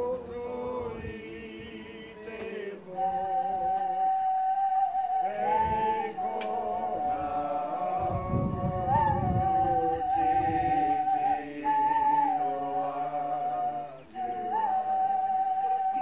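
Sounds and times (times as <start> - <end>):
person singing chant-like notes: 0.0 - 16.0.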